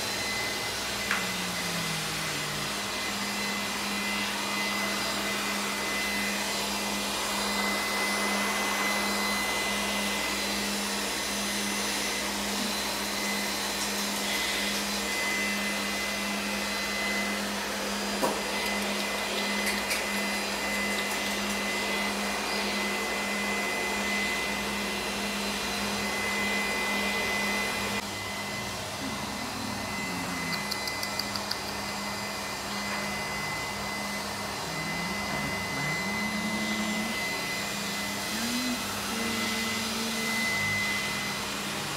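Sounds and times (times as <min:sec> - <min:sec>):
electric machine whirring: 0:00.0 - 0:41.9.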